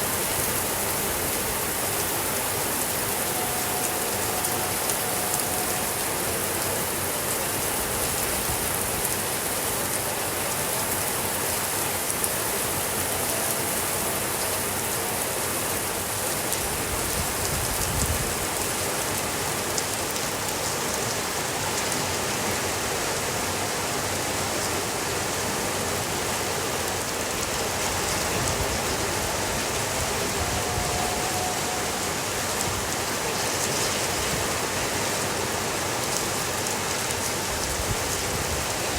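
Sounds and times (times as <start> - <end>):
steady rain on a surface: 0.0 - 38.9.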